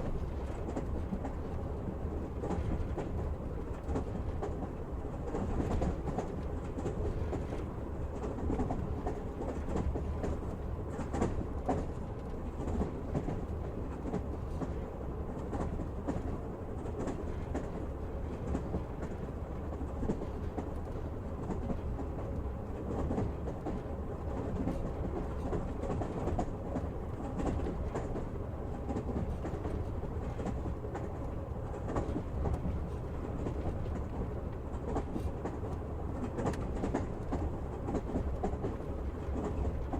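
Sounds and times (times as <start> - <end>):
low train rumble: 0.0 - 39.9.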